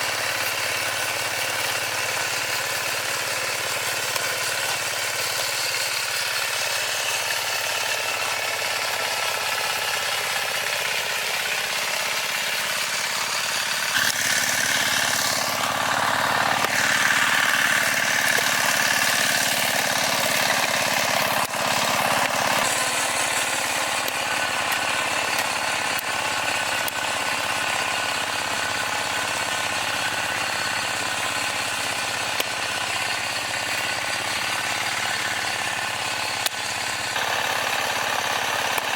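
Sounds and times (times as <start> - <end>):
farm machine engine: 0.0 - 38.9.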